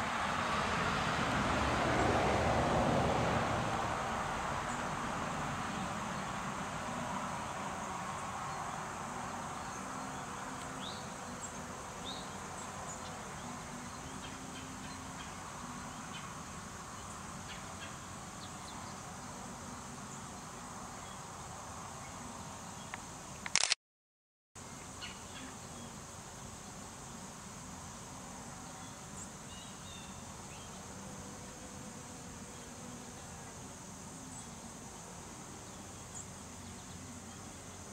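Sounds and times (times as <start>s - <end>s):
high-pitched insect chorus: 3.5s - 23.4s, 24.6s - 37.9s.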